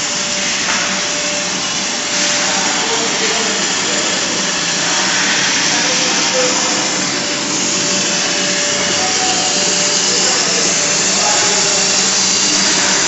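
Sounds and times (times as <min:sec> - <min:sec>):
packing machine whirring: 0:00.0 - 0:13.0.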